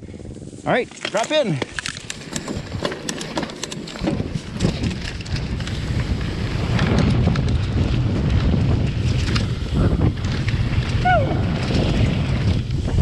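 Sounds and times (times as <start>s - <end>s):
bike tyres on dirt: 0.0s - 13.0s
wind rumble on microphone: 0.0s - 13.0s
bike clicks and rattles: 0.1s - 13.0s.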